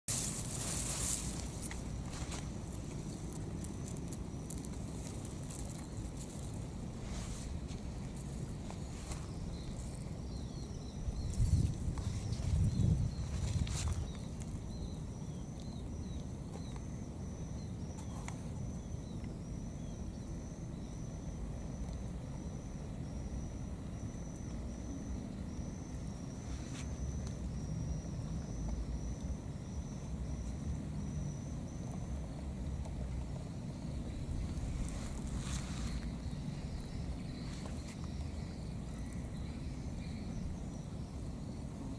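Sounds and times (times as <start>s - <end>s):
steady low rumble: 0.1s - 41.9s.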